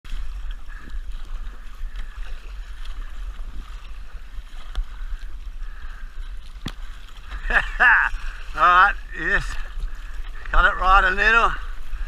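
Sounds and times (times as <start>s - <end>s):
water sloshing around kayak: 0.0s - 12.0s
wind rumble on microphone: 0.0s - 12.0s.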